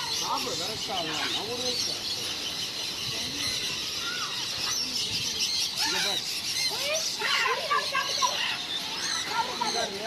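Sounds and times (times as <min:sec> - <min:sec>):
birds chirping and squeaking: 0:00.0 - 0:10.0.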